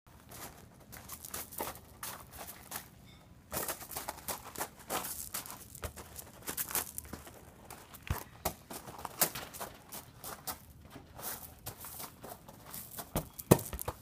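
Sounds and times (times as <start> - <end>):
ball scuffing on gravel: 0.1 - 14.0
footsteps crunching on gravel: 0.1 - 14.0.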